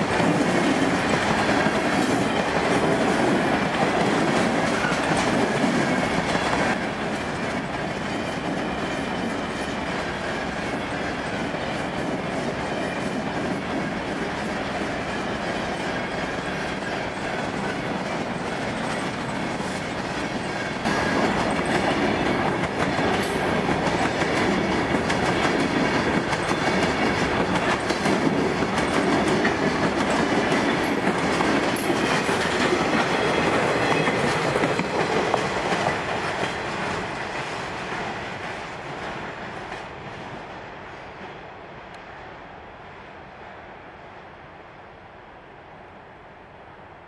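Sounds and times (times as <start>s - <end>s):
wheels clicking over rail joints: 0.0s - 39.0s
freight train rolling past: 0.0s - 45.1s.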